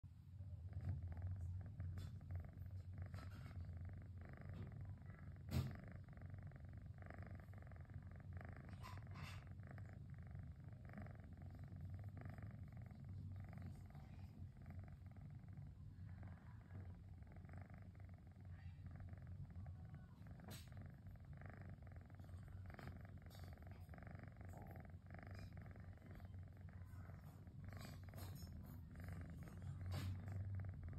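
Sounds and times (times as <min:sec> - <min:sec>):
kitten purring: 0:00.0 - 0:30.9.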